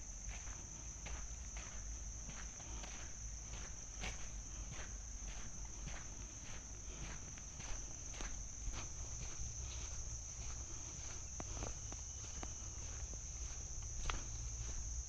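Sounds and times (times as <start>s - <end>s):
footsteps on forest floor: 0.0s - 15.0s
insects droning in chorus: 0.0s - 15.0s.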